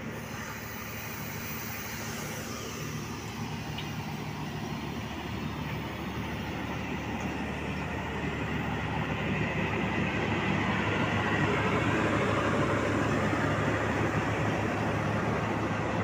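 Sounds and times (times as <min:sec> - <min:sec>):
diesel locomotive engine hum: 0:00.0 - 0:16.0
train wheels rumbling on rails: 0:00.0 - 0:16.0.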